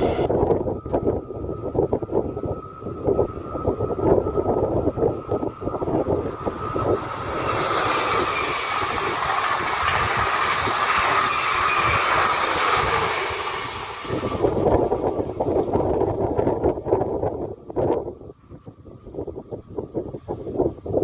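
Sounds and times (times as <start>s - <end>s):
train wheels rushing on rails: 0.0s - 17.3s
wind buffeting microphone: 0.0s - 21.0s.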